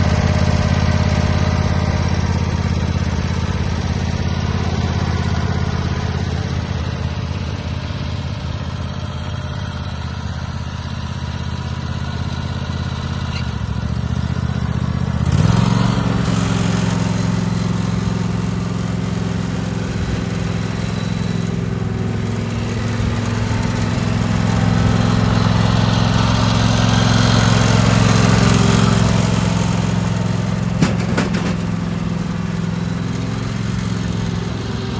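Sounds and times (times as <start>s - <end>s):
garden tractor engine running: 0.0s - 34.9s.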